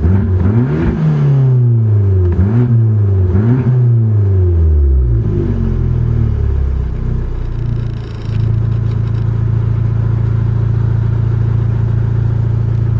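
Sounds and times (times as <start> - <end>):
car engine winding down and idling: 0.0 - 12.9.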